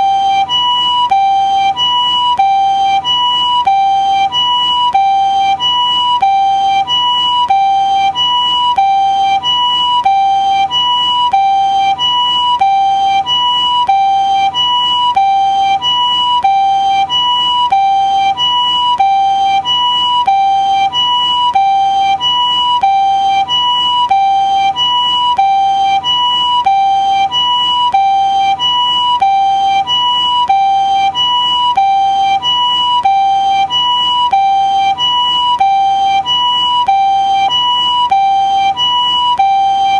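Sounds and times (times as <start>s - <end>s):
ambulance two-tone siren: 0.0s - 39.9s.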